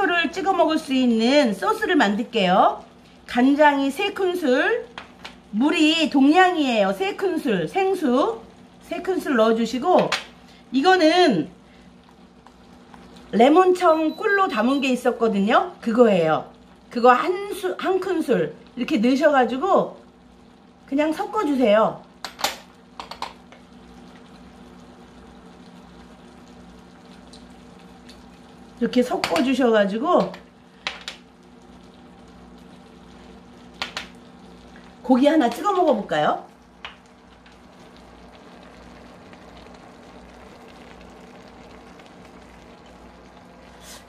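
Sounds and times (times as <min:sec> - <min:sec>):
faint steady hiss and hum: 0:00.0 - 0:44.0.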